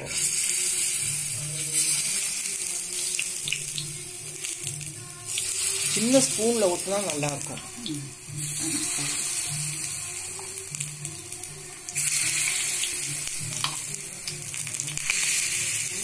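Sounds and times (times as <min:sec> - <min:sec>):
batter sizzling in hot ghee: 0:00.0 - 0:16.0.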